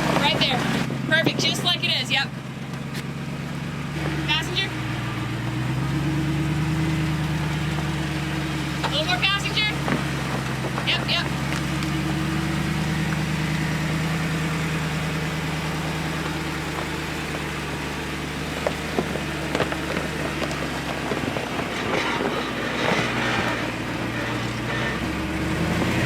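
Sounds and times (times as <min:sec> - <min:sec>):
off-road vehicle engine running: 0:00.0 - 0:26.0.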